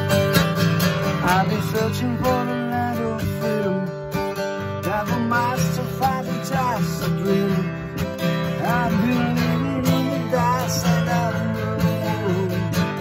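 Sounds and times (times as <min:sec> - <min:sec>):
strummed acoustic guitar: 0:00.0 - 0:13.0
man singing: 0:01.1 - 0:13.0.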